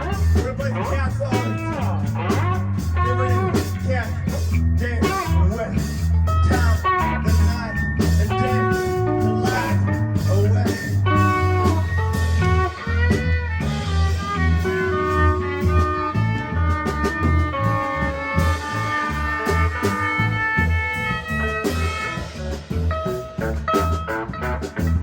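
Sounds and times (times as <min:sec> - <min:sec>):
bass and drums: 0:00.0 - 0:25.0
electric guitar with bent notes: 0:00.0 - 0:25.0.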